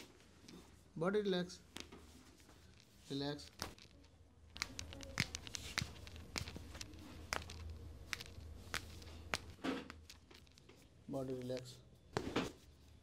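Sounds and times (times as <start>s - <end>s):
hands rustling clothing: 1.7s - 13.0s.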